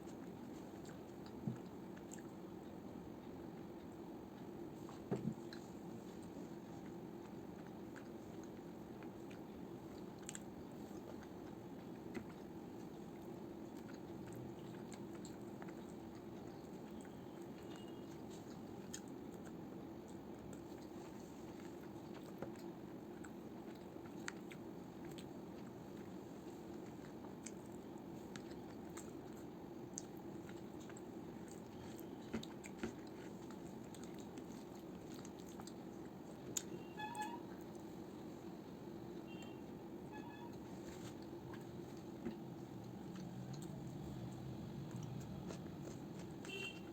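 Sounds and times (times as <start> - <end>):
person chewing food: 0.0 - 39.8, 40.6 - 46.9
steady low hum: 0.0 - 46.9.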